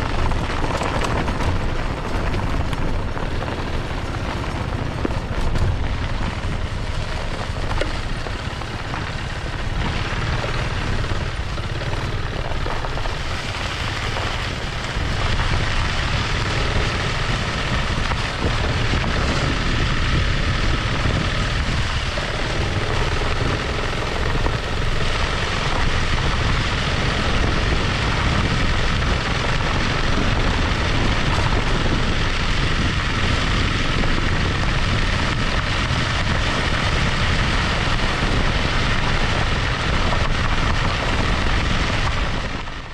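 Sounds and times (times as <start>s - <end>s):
scooter engine drone: 0.0s - 42.9s
tyre and wind rumble: 0.0s - 42.9s.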